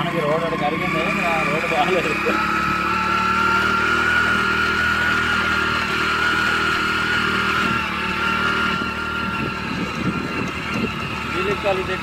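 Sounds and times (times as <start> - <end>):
high whine: 0.0 - 12.0
motorcycle engine running: 0.0 - 12.0.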